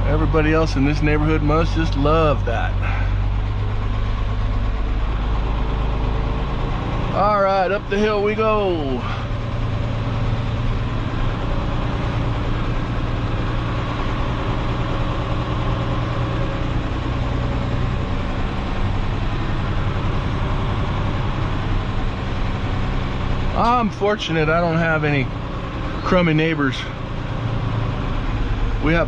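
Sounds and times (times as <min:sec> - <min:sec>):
truck engine driving uphill: 0:00.0 - 0:29.0.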